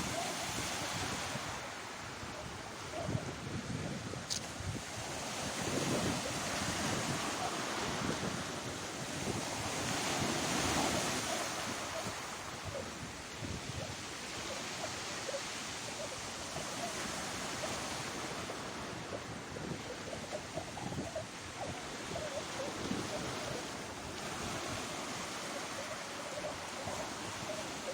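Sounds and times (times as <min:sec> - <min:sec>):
sea waves breaking on shore: 0:00.0 - 0:27.9
wind on microphone: 0:00.0 - 0:27.9.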